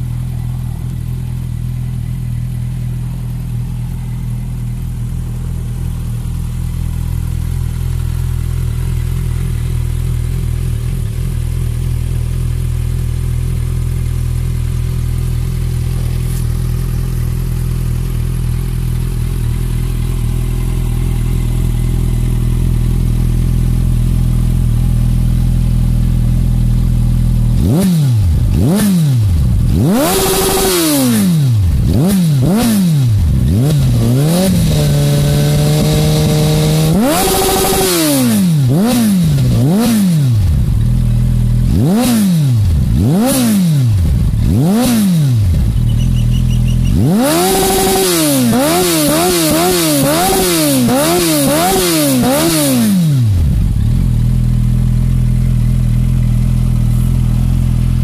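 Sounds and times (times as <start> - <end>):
motorcycle engine idling: 0.0 - 58.0
engine revving: 5.0 - 58.0.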